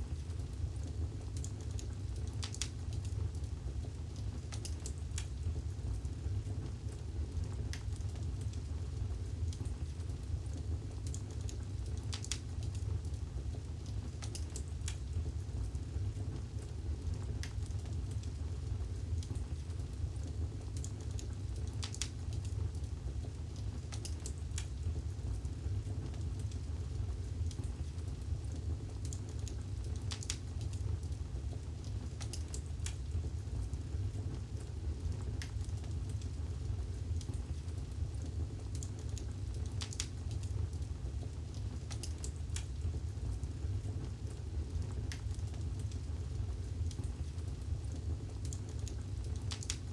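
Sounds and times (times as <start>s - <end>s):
fire crackling and popping: 0.0s - 49.9s
fire rumbling: 0.0s - 49.9s.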